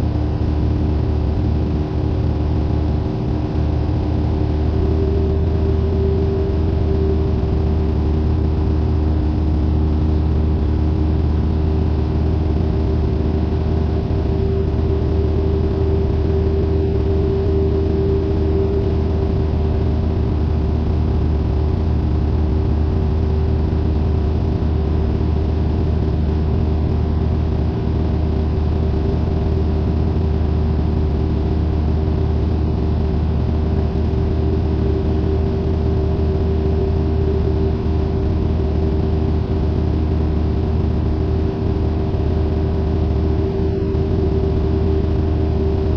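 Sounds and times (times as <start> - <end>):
light aircraft engine and propeller: 0.0 - 45.9.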